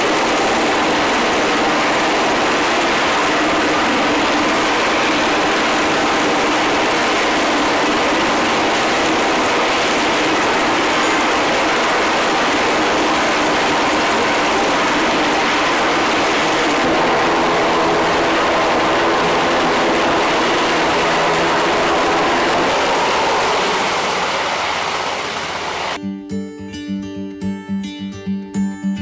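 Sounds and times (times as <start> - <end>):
helicopter turbines and rotor: 0.0 - 26.0
humming tone: 0.0 - 26.0.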